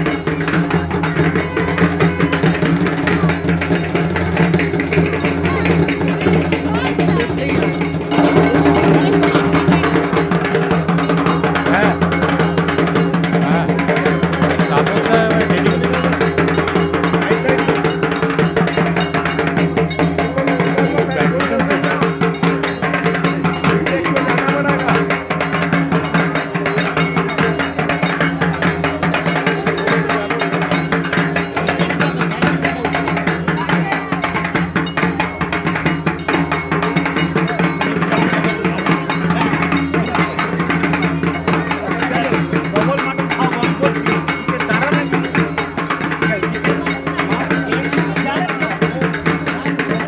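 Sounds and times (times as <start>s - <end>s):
barrel drum beaten fast: 0.0s - 50.0s.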